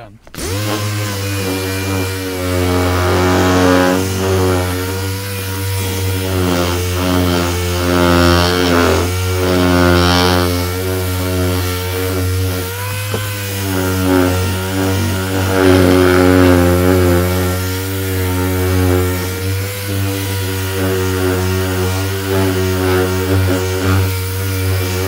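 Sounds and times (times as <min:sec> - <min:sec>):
electric power sander: 0:00.2 - 0:25.0.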